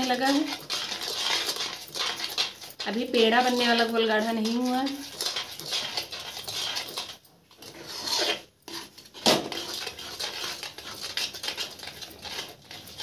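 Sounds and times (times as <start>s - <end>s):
spatula scraping metal pan: 0.0s - 13.0s.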